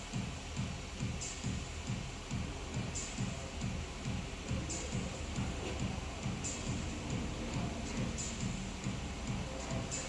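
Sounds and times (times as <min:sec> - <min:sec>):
electronic music: 0:00.0 - 0:10.0
steady kick-drum beat: 0:00.0 - 0:10.0.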